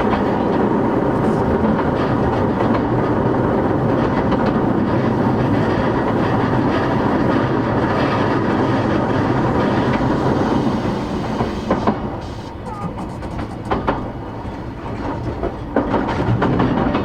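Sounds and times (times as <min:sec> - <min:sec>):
faint clicks at rail joints: 0:00.0 - 0:10.2, 0:10.9 - 0:17.0
train wheels rumbling on rails: 0:00.0 - 0:17.0.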